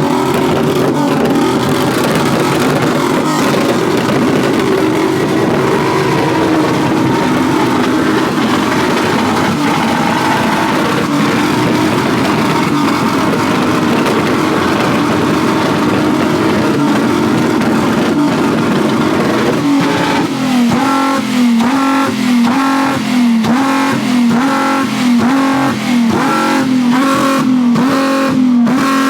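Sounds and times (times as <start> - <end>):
car engine running loudly: 0.0 - 29.0.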